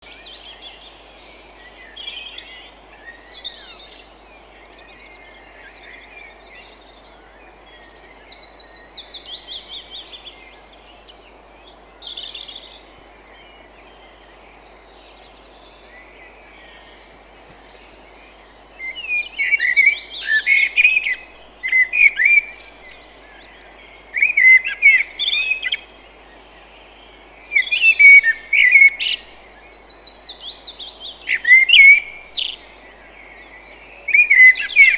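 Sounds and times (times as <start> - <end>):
steady low hiss: 0.0 - 34.9
wild birds chirping and singing: 0.0 - 34.9.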